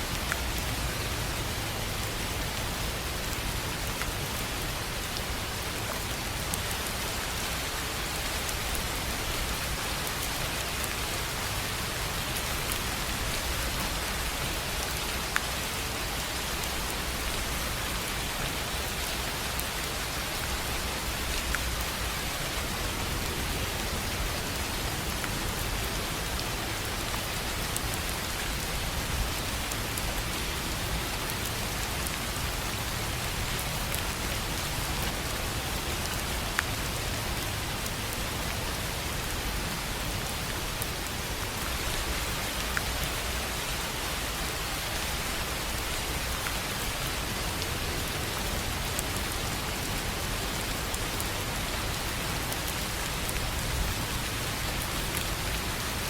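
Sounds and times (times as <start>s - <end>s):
rain on a tin roof: 0.0s - 56.0s.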